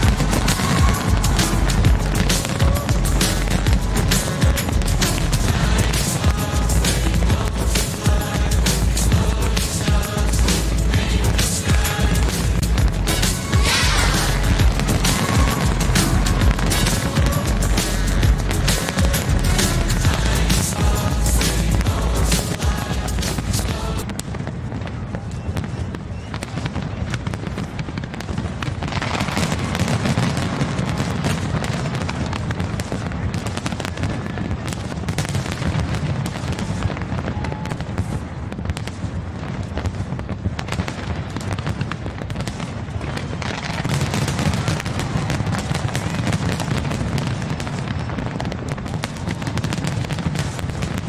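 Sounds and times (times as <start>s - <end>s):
fireworks booms and crackling: 0.0s - 51.0s.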